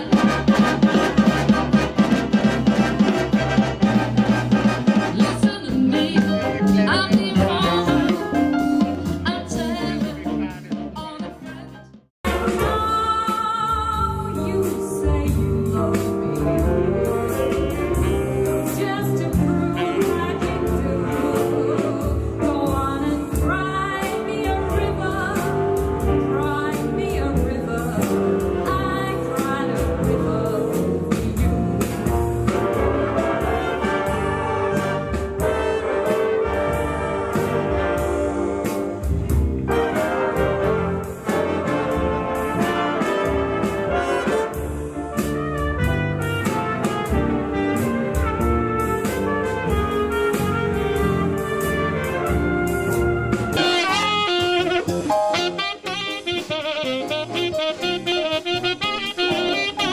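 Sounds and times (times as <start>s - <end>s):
big band playing jazz: 0.0s - 59.9s.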